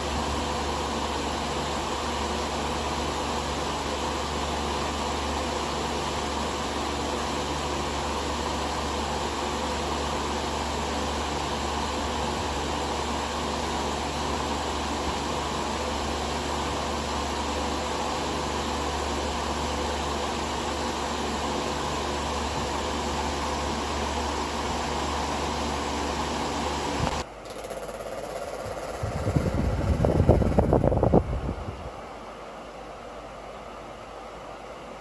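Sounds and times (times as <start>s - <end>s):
table fan running: 0.0s - 35.0s.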